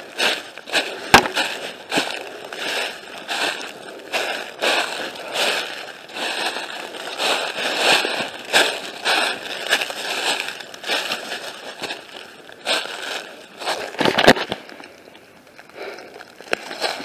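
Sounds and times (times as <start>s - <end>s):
footsteps crunching through dry leaves: 0.0s - 14.9s, 15.5s - 17.0s.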